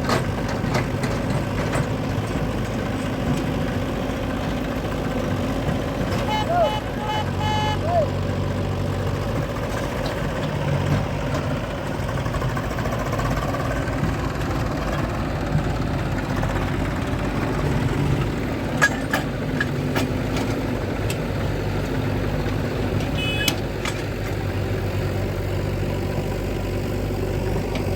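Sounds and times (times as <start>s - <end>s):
diesel engines running: 0.0s - 27.9s.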